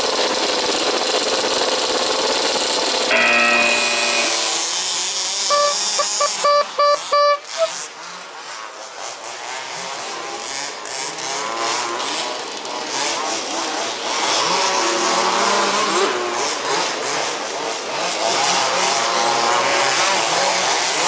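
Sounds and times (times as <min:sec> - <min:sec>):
rc buggy engines revving: 0:00.0 - 0:21.0.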